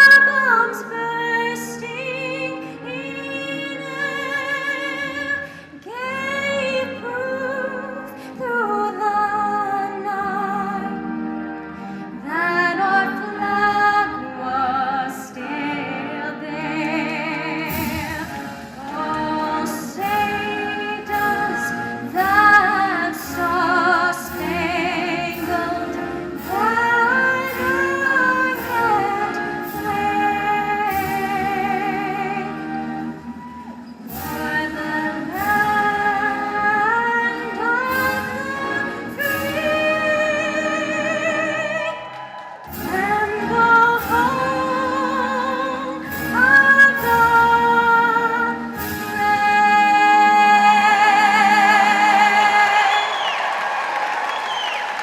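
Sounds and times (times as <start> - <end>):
woman singing with vibrato: 0.0 - 53.6
instrumental backing music: 0.0 - 54.0.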